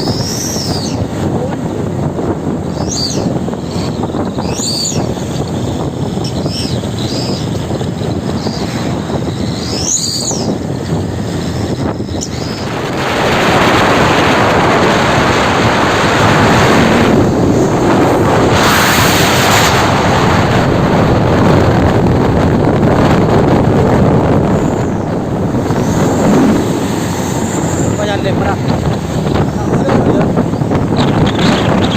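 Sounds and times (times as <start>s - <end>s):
wind on microphone: 0.0s - 31.9s.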